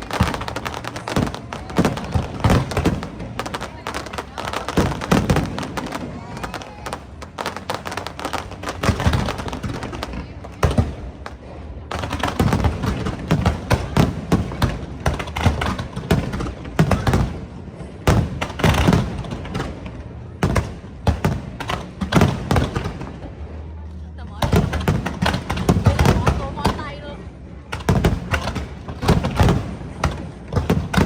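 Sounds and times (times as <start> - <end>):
fireworks exploding with crackling: 0.0 - 31.0.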